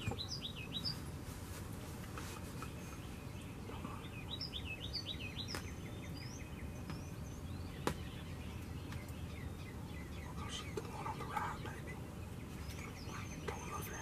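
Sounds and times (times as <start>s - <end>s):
low background noise: 0.0s - 14.0s
small birds chirping: 0.0s - 14.0s.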